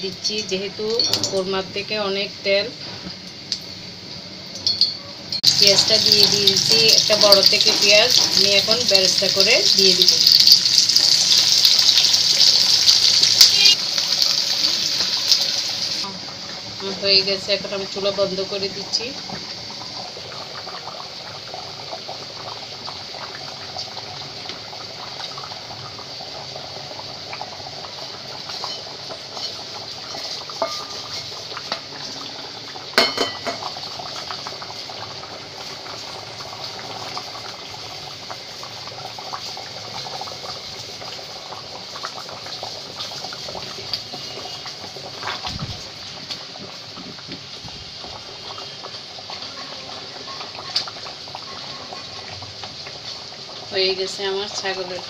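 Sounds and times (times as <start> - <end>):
gravy bubbling in metal pot: 4.6 - 55.0.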